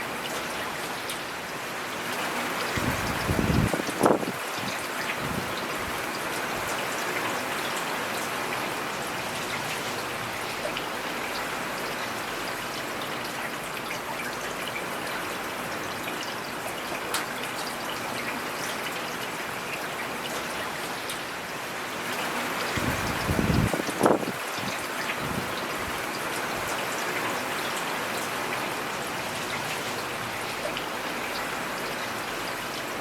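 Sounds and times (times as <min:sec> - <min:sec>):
rain falling in a forest: 0:00.0 - 0:33.0.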